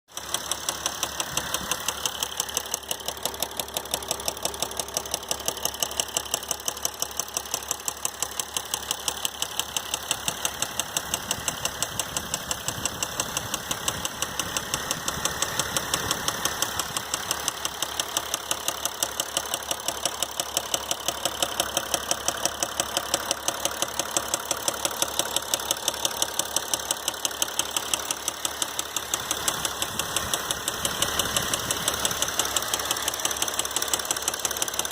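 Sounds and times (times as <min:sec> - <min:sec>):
diesel engine knocking: 0:00.1 - 0:34.9.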